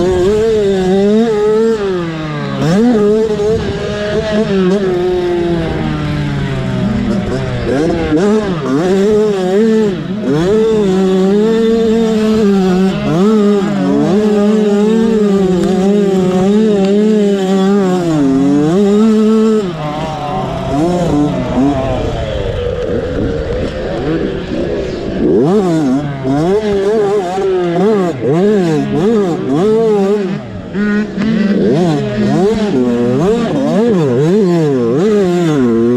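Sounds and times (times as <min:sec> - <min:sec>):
dirt bike engine revving: 0:00.0 - 0:35.9
several bike engines: 0:00.0 - 0:35.9.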